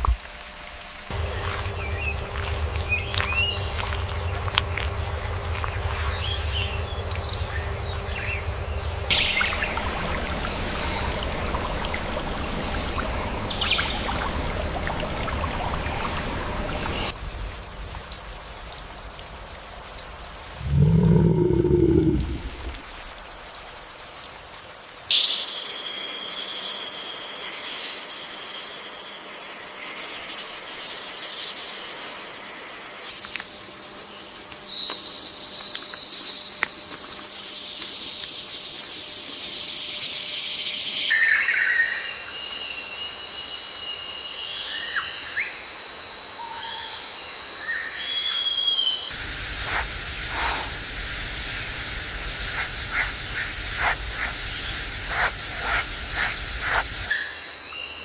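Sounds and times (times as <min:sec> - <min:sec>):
insects trilling: 0:01.1 - 0:17.2, 0:20.2 - 0:23.0, 0:25.1 - 0:58.0.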